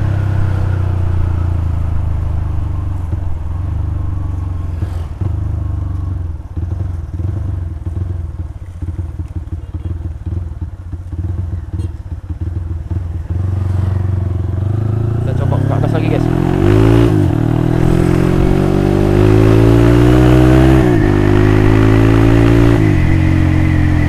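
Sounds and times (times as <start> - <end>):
motorcycle engine riding: 0.0 - 24.0.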